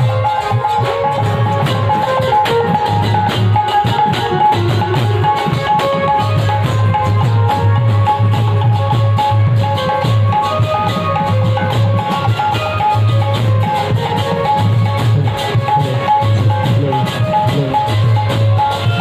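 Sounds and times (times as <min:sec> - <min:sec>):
barrel drums beating: 0:00.0 - 0:19.0.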